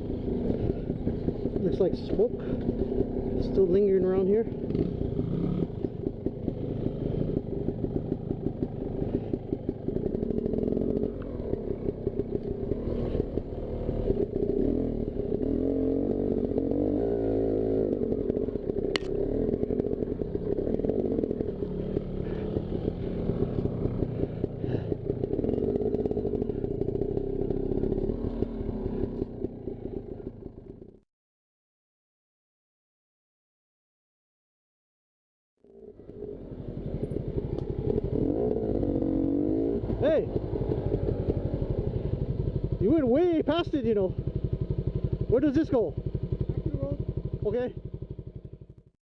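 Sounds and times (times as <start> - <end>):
dirt bike engine running: 0.0 - 31.0, 35.6 - 48.9.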